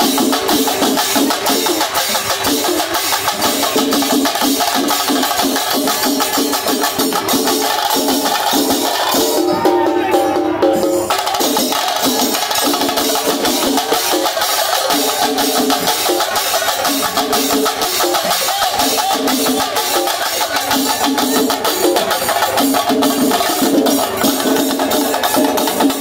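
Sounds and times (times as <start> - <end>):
festival drumming: 0.0 - 26.0.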